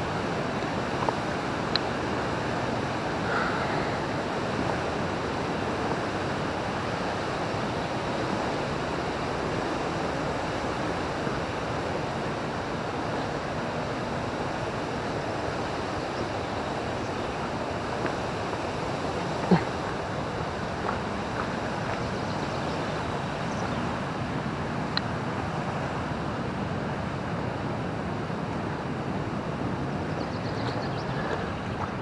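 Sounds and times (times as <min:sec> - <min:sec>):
waterfall rushing: 0:00.0 - 0:30.1.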